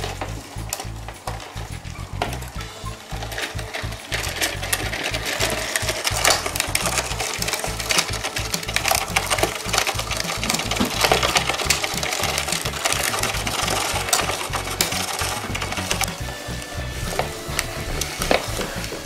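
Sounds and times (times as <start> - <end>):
plastic toy crank rattling and clicking: 0.0 - 19.0.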